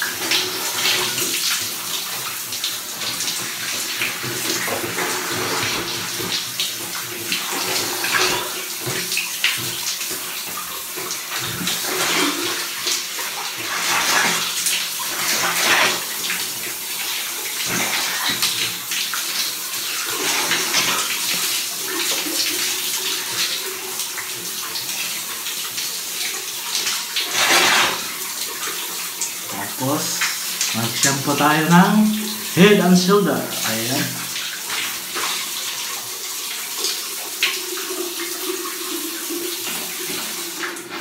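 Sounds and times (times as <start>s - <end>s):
shower water splashing: 0.0s - 41.0s.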